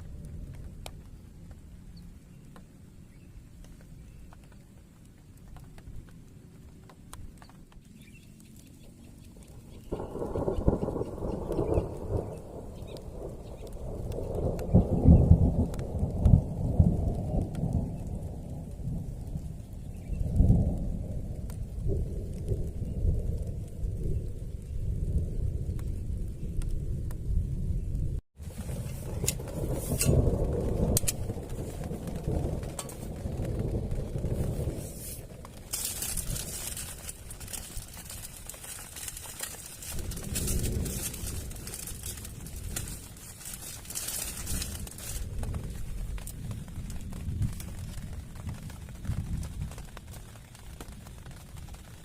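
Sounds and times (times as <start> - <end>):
distant thunder rumble: 0.0 - 52.0
raindrops ticking: 0.0 - 52.0.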